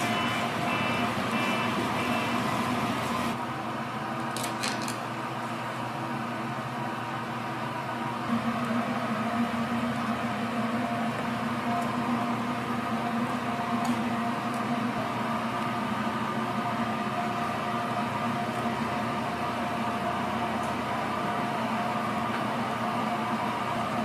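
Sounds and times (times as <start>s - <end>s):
mechanical hum with held tones: 0.0s - 24.0s.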